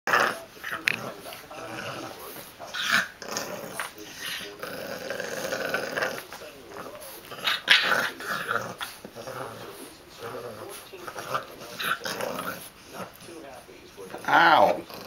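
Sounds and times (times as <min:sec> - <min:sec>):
puppy growling: 0:00.1 - 0:15.0.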